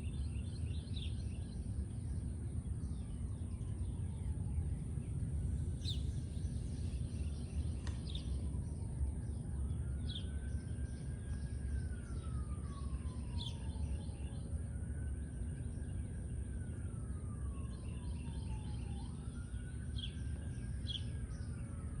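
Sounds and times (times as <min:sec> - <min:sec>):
birds chirping: 0:00.0 - 0:14.5, 0:17.5 - 0:21.7
low outdoor rumble: 0:00.0 - 0:22.0
siren wailing: 0:02.8 - 0:22.0.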